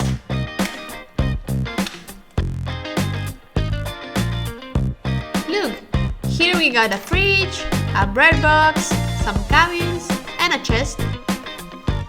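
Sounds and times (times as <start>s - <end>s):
plucked guitar notes: 0.0s - 12.0s
upbeat music with bass beat: 0.0s - 12.0s.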